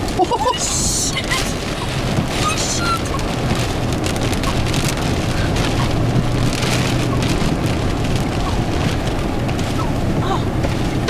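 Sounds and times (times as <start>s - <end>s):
heavy wind-driven rain: 0.0s - 11.0s
loud roar of tornado wind: 0.0s - 11.0s
ticks of rain striking: 0.0s - 11.0s.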